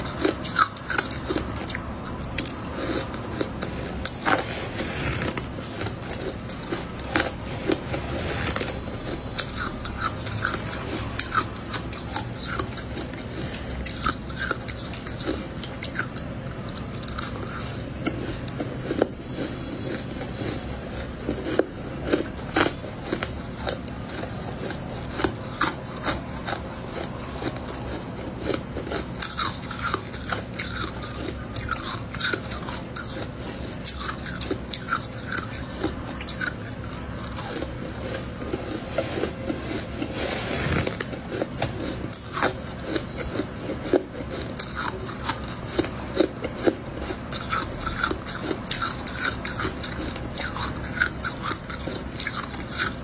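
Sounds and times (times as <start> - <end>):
chewing crunchy frost: 0.0 - 53.0.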